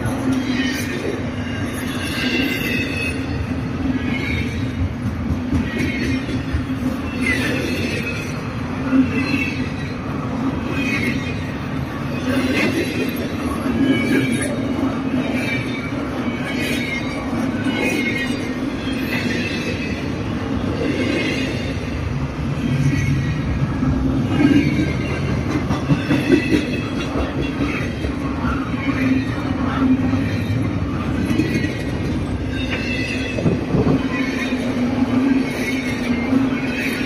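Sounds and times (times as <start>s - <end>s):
freight train rumbling on rails: 0.0s - 37.0s.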